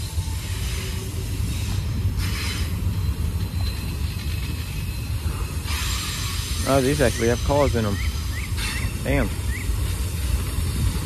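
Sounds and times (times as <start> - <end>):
freight train wheels rumbling on rail: 0.0 - 11.0.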